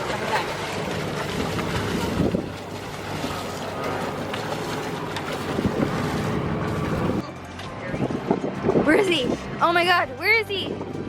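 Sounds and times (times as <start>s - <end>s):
open water washing around boat: 0.0s - 11.0s
wind buffeting microphone: 0.0s - 11.0s.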